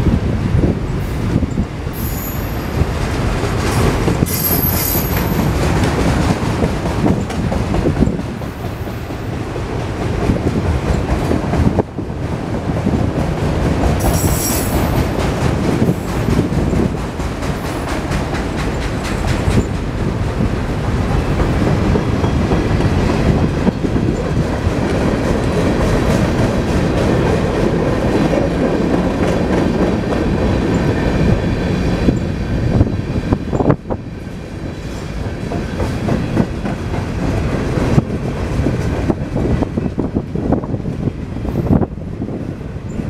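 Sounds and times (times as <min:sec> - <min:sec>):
steel wheels rumbling on rail: 0:00.0 - 0:43.0
clickety-clack over rail joints: 0:00.1 - 0:43.0.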